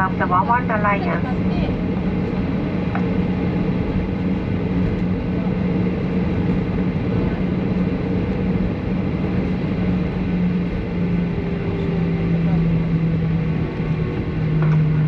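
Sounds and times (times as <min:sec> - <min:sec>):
airplane cabin noise: 0:00.0 - 0:15.0.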